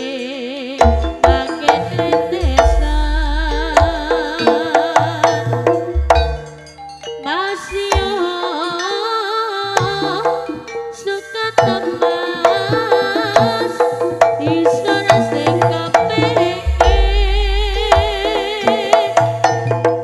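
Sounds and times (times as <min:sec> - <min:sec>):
ornamented melody line: 0:00.0 - 0:20.0
hand drums beating: 0:00.8 - 0:09.0, 0:09.7 - 0:20.0.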